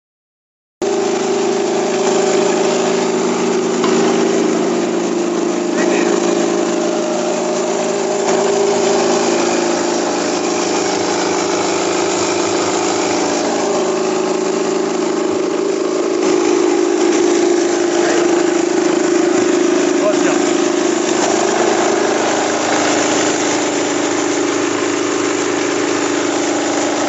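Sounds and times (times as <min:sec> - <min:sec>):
rice husker machine humming: 0:00.8 - 0:27.0.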